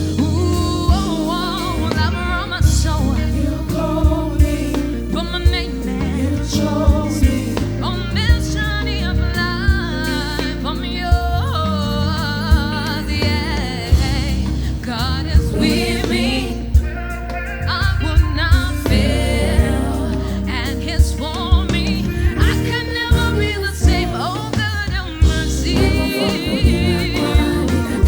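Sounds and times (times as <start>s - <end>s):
gospel band: 0.0s - 28.0s
wavering lead vocal: 0.0s - 28.0s.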